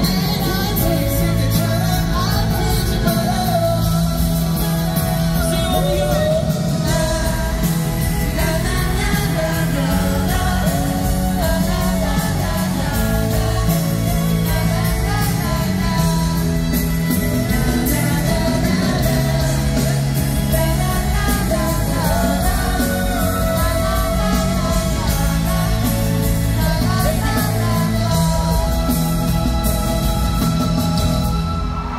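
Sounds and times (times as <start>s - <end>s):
live pop-rock band: 0.0s - 31.9s
men singing: 0.0s - 31.9s.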